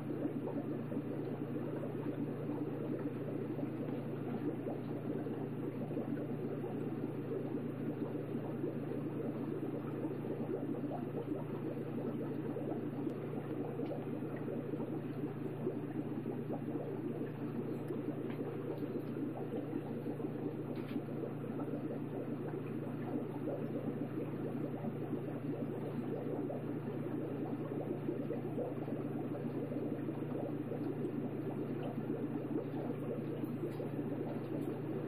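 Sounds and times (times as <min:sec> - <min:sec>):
aquarium water bubbling: 0:00.0 - 0:35.0
low hum: 0:00.0 - 0:35.0.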